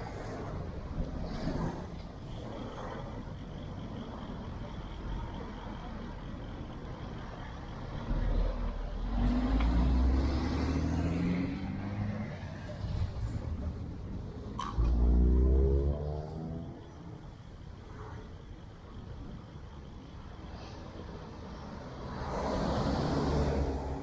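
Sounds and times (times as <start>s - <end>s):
large vehicle engine drone: 0.0s - 24.0s
traffic noise: 0.0s - 24.0s.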